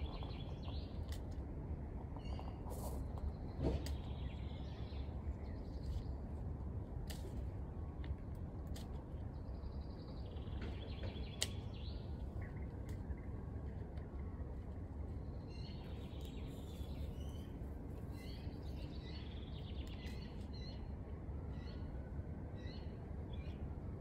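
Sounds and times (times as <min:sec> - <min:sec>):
small birds chirping: 0:00.0 - 0:01.5, 0:02.1 - 0:24.0.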